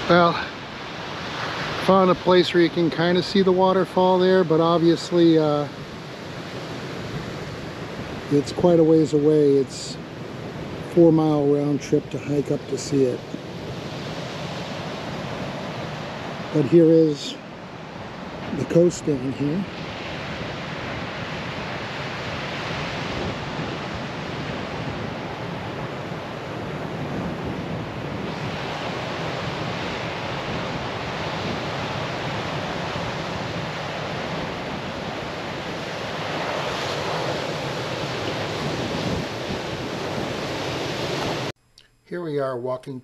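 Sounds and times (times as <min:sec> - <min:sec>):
surf washing onto boulder beach: 0:00.0 - 0:41.5
wind on microphone: 0:00.0 - 0:41.5.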